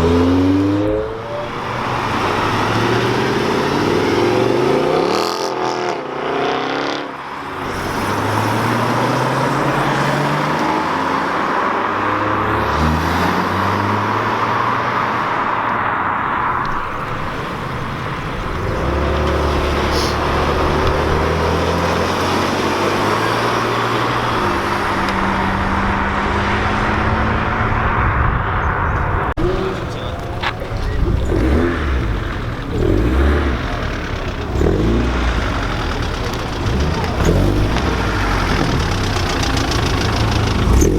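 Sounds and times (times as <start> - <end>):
cars accelerating past: 0.0 - 40.9.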